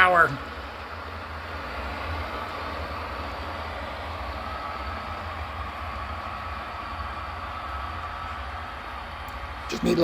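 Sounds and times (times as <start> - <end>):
model train running with whine: 0.0 - 10.0.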